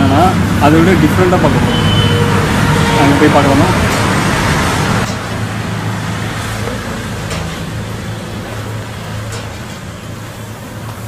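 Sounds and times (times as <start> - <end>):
roadside traffic with engine hum: 0.0 - 11.0.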